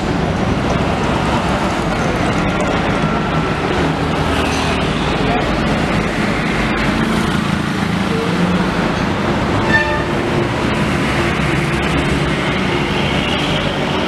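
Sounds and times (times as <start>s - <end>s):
traffic passing close by: 0.0s - 14.0s.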